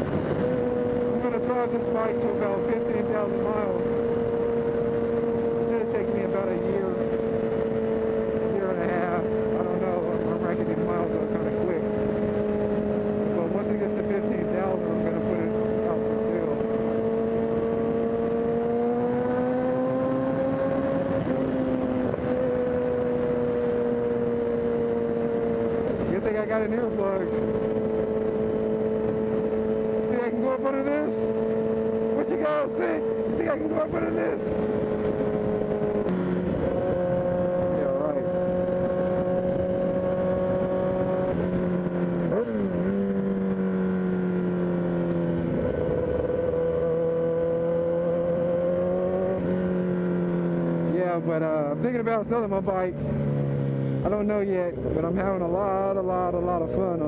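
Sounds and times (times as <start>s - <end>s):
rushing wind noise: 0.0s - 13.4s, 14.8s - 47.6s
motorcycle engine cruising: 0.0s - 57.0s.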